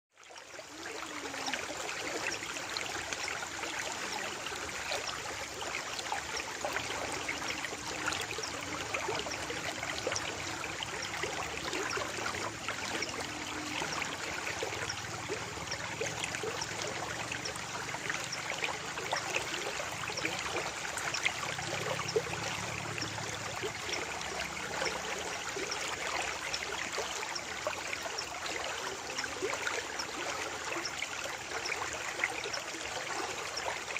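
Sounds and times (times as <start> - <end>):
running water babbling: 0.1 - 33.9.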